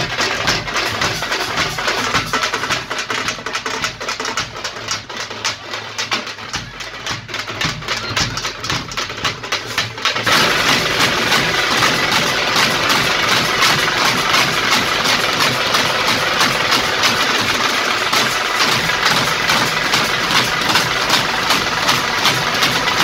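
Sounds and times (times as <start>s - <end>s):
drum troupe playing fast beat: 0.0s - 23.0s.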